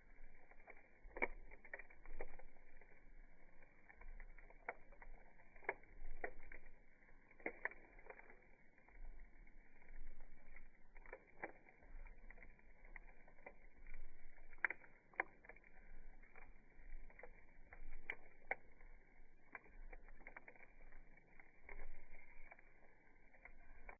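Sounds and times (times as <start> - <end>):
campfire pops and snaps: 0.0 - 23.9.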